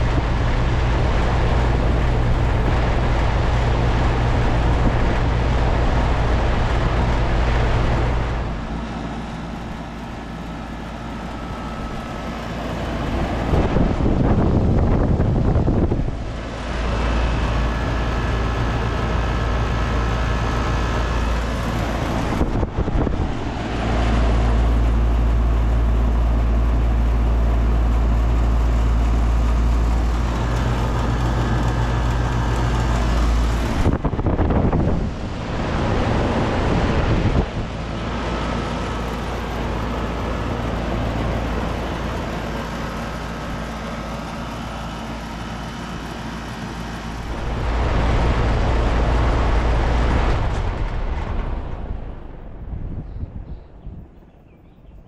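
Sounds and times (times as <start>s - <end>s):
compressor hum: 0.0s - 55.0s
fan rushing: 0.0s - 55.0s.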